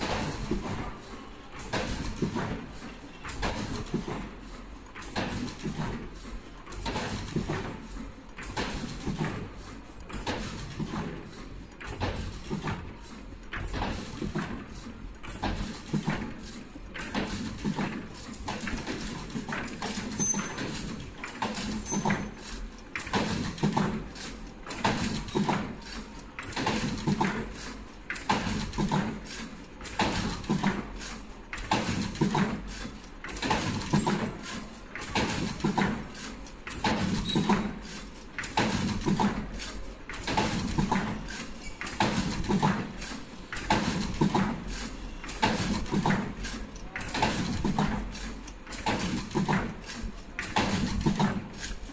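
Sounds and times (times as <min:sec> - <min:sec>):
machine clacks and knocks: 0:00.0 - 0:51.9.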